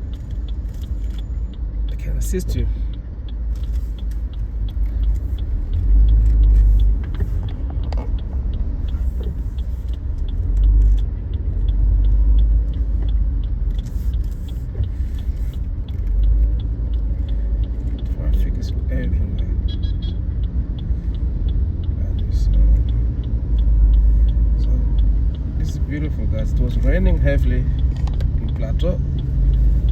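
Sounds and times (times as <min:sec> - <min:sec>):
car engine and road rumble: 0:00.0 - 0:29.9
light even ticking: 0:00.0 - 0:29.9.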